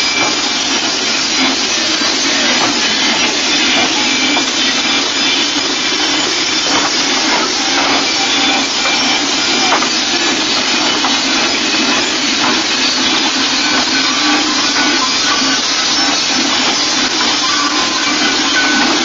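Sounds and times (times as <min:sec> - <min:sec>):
large cowbells clanging: 0:00.0 - 0:19.0.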